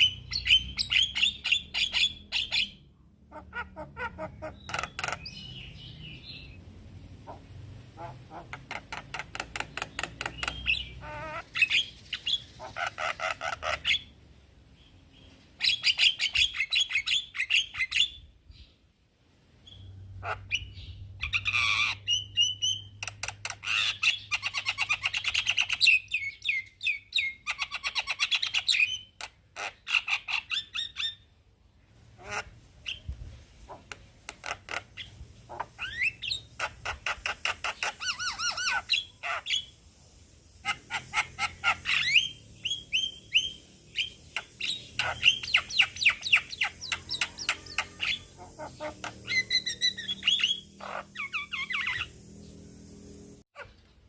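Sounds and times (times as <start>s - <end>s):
myna bird chattering and whistling: 0.0s - 6.6s, 7.3s - 14.2s, 15.2s - 18.7s, 19.7s - 31.2s, 32.2s - 39.8s, 40.4s - 52.3s.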